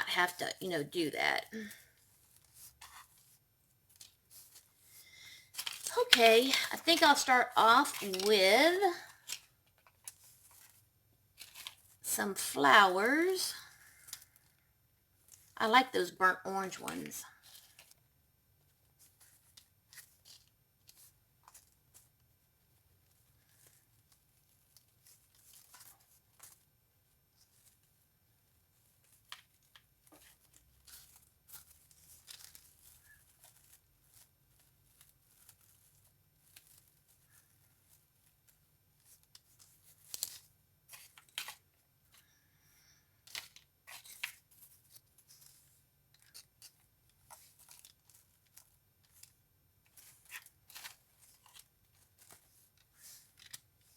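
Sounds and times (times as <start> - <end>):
artificial flowers rustling and clicking: 0.0 - 53.9.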